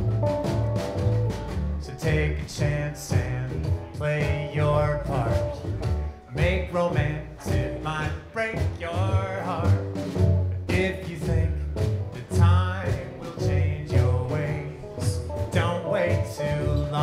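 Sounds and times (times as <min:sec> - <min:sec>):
snare drum beat: 0:00.0 - 0:17.0
upright bass: 0:00.0 - 0:17.0.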